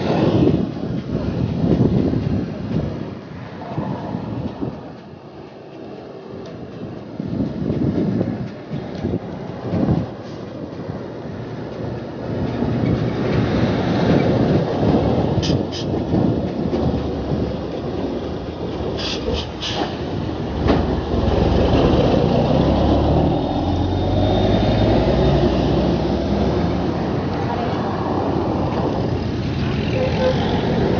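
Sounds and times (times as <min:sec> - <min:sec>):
wind and road noise: 0:00.0 - 0:30.9.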